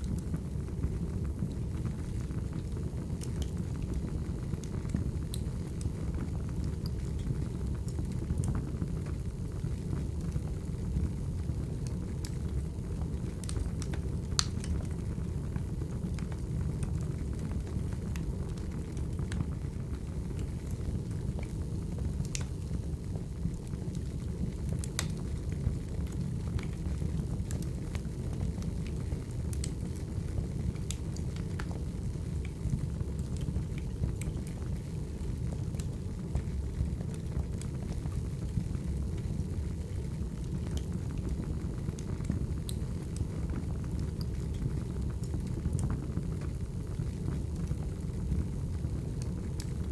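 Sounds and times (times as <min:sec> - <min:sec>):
fire crackling: 0:00.0 - 0:49.9
wood fire rumbling: 0:00.0 - 0:49.9.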